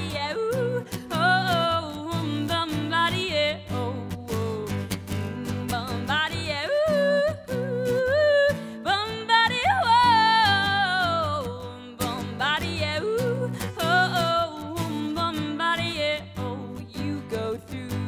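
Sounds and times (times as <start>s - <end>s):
strummed acoustic guitar: 0.0s - 18.0s
woman singing: 0.0s - 18.0s.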